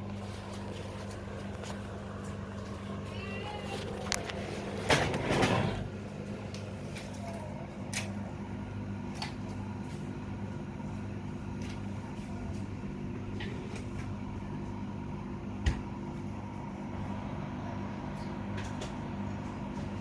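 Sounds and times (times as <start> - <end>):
dehumidifier hum and fan hiss: 0.0 - 20.0.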